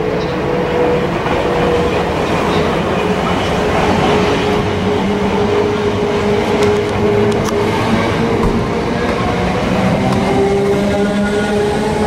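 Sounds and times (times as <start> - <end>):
electric train hum: 0.0 - 12.0
wheel and rail noise: 0.0 - 12.0.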